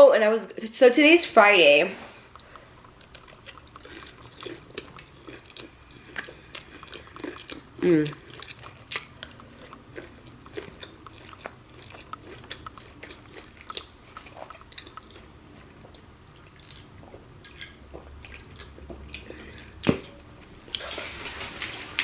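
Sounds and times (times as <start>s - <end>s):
person chewing food: 2.2s - 22.0s.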